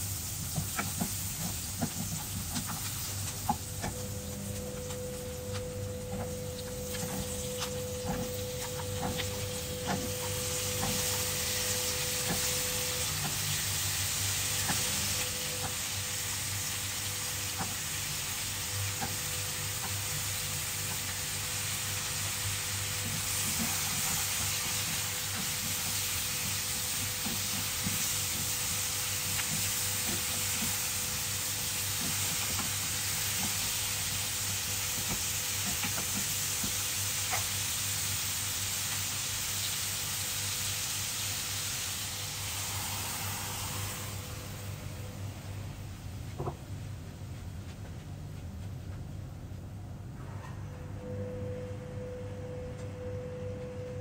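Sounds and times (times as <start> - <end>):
vegetables sizzling in oil: 0.0 - 45.3.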